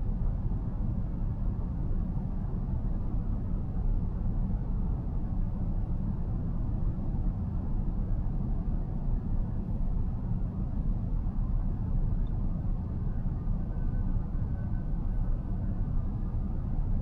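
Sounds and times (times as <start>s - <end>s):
road and tyre rumble inside car: 0.0s - 17.0s.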